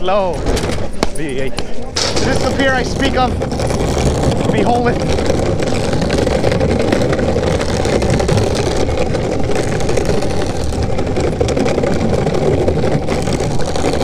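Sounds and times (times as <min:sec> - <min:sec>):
longboard wheels rolling on wood: 0:00.0 - 0:14.0.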